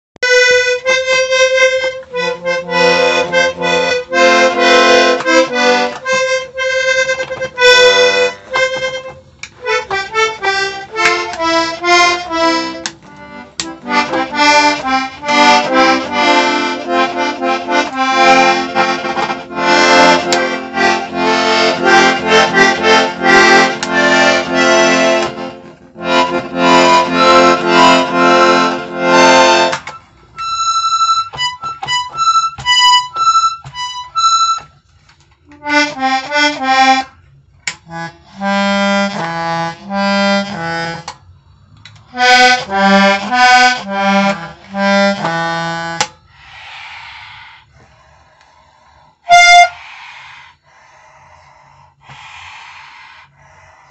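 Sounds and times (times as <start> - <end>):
button accordion playing a tune: 0.2 - 46.4, 48.4 - 50.4.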